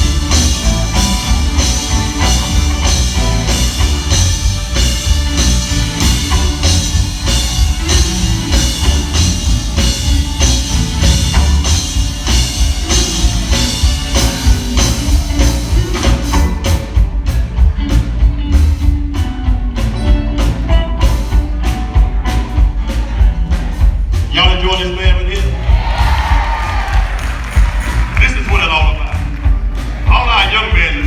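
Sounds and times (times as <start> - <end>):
live gospel band playing: 0.0 - 31.0.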